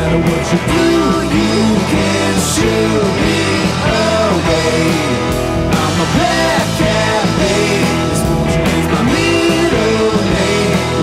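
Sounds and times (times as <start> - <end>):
blues-rock band song: 0.0 - 11.0.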